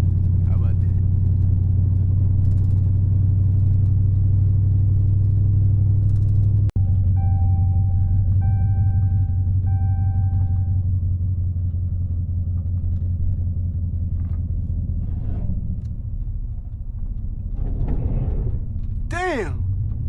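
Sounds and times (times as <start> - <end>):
car engine and road rumble: 0.0 - 17.6.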